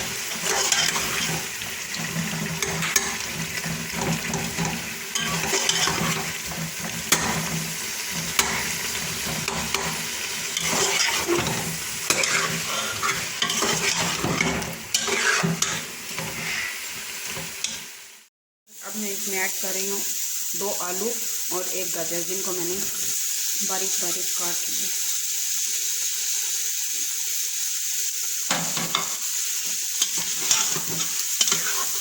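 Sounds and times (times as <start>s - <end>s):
food sizzling in oil: 0.0s - 32.0s.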